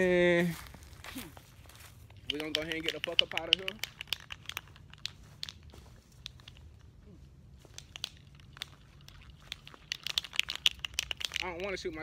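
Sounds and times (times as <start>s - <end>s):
footsteps crunching on dry ground: 0.0s - 12.0s
low steady hum: 0.0s - 12.0s.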